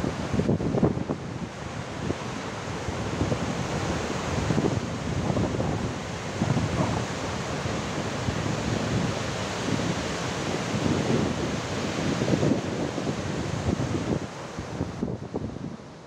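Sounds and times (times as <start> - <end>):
sea surf breaking: 0.0 - 15.4
wind buffeting microphone: 0.0 - 16.0.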